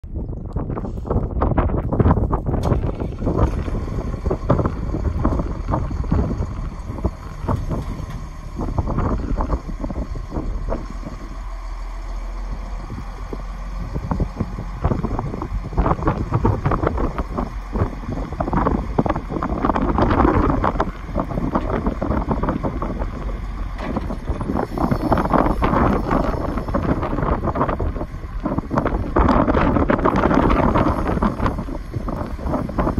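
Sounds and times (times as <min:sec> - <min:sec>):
wind buffeting microphone: 0:00.0 - 0:32.9
diesel engine running: 0:00.1 - 0:32.9.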